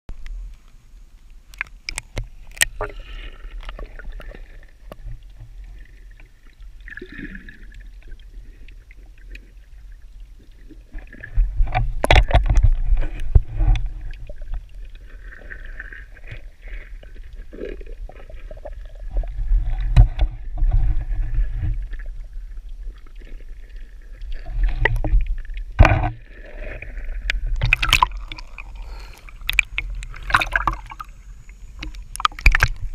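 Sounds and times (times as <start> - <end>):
muffled underwater water sloshing: 0.2 - 32.9
water splashing: 1.5 - 32.9.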